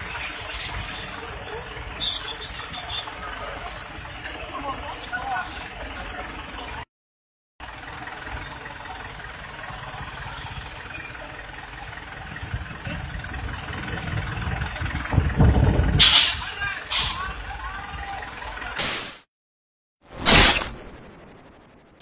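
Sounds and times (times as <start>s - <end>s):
idling vehicle engines: 0.0s - 6.9s, 7.6s - 18.8s.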